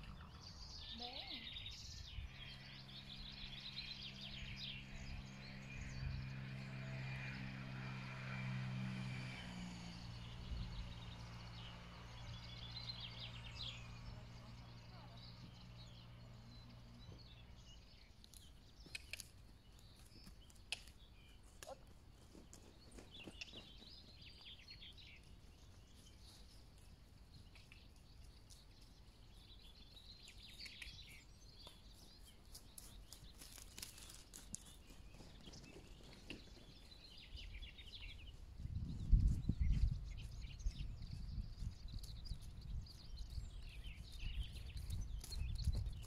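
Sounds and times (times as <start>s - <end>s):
faint birdsong: 0.0s - 46.0s.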